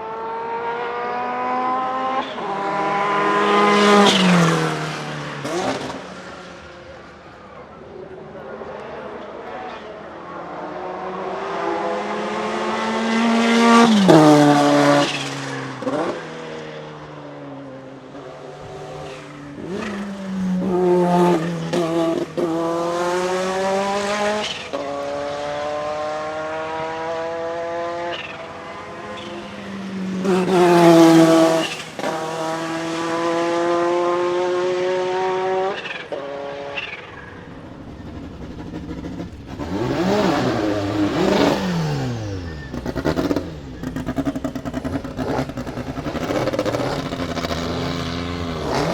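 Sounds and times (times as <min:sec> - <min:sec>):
racing engine accelerating through gears: 0:00.0 - 0:06.4, 0:09.6 - 0:17.1, 0:18.6 - 0:48.9.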